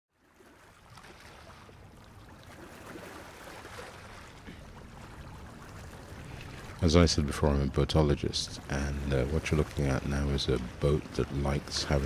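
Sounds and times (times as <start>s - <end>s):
small waves lapping and splashing: 0.1s - 12.0s.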